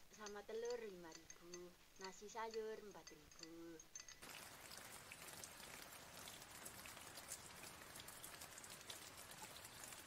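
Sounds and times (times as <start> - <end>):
faint steady rain: 0.0 - 10.0.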